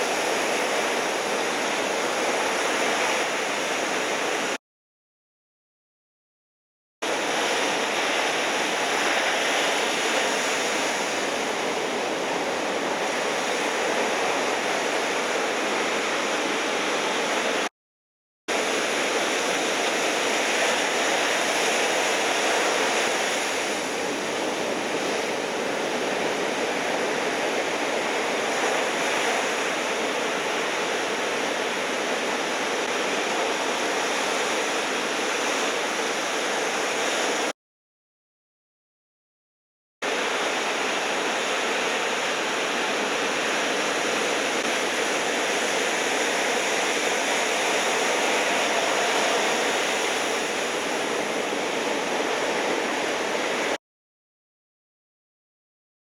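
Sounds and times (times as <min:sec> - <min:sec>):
ocean surf rushing: 0:00.0 - 0:04.6, 0:07.0 - 0:17.7, 0:18.5 - 0:37.5, 0:40.0 - 0:53.8.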